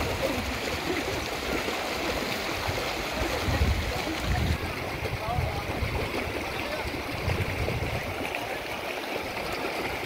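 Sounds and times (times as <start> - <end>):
stream rushing over stones: 0.0 - 10.0.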